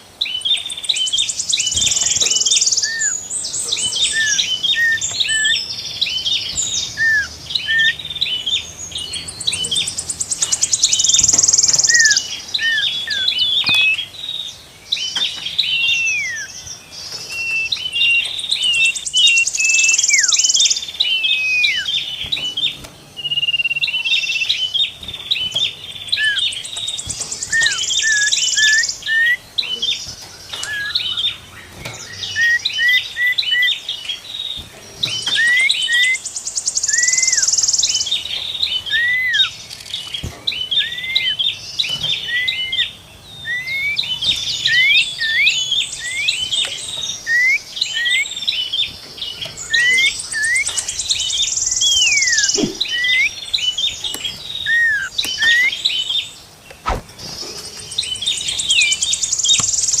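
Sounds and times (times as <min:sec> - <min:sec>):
high buzzy bird trills: 0:00.0 - 1:00.0
songbirds singing: 0:00.0 - 1:00.0.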